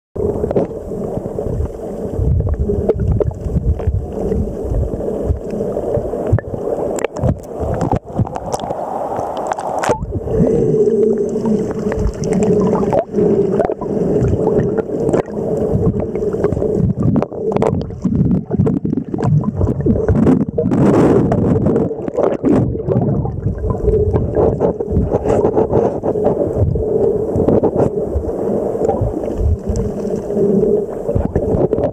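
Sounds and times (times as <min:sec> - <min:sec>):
muffled underwater surf sloshing: 0:00.2 - 0:31.9.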